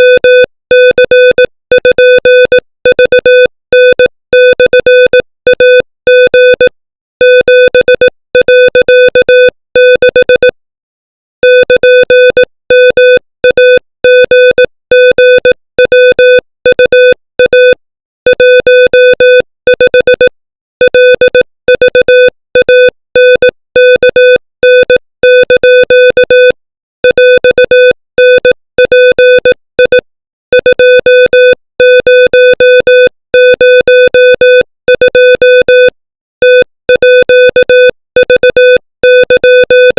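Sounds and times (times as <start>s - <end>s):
morse code beeps: 0.0s - 10.6s, 11.4s - 39.9s.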